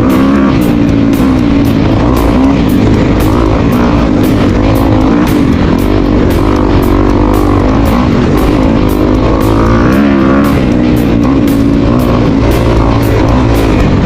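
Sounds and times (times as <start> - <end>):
dirt bike engine revving: 0.0 - 14.0
rock music with steady beat: 0.0 - 14.0.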